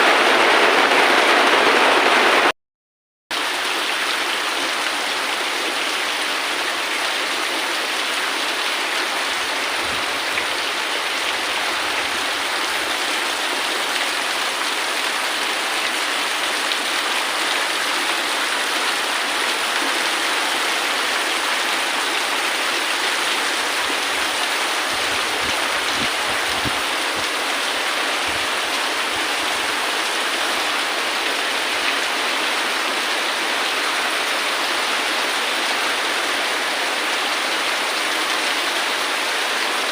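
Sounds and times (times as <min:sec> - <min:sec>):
heavy rain falling: 0:00.0 - 0:02.5, 0:03.4 - 0:39.9.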